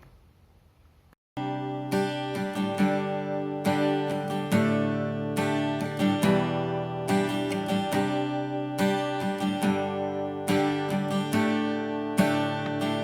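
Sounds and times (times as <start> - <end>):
acoustic guitar strumming: 1.4 - 13.0.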